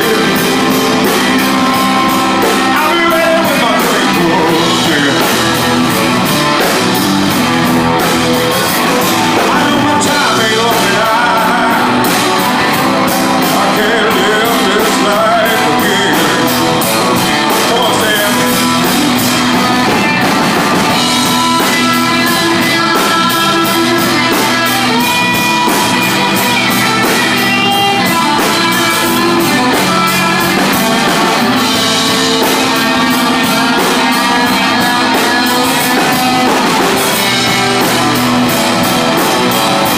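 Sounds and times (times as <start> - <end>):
drum kit: 0.0 - 39.9
electric guitar: 0.0 - 39.9
organ: 0.0 - 39.9
pedal bass: 0.0 - 39.9.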